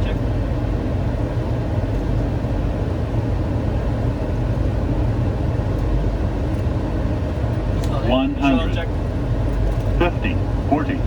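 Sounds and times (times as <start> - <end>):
low rumble of airflow and engines: 0.0 - 11.0.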